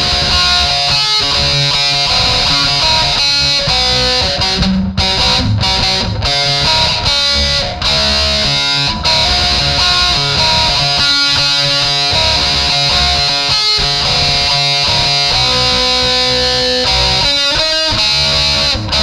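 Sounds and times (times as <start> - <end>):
distorted electric guitar riff: 0.0 - 19.0.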